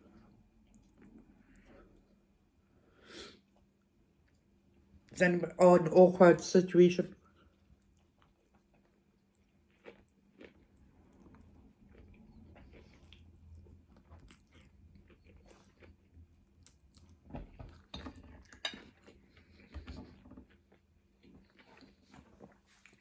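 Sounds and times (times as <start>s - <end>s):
person chewing food: 0.0s - 5.0s, 7.2s - 23.0s.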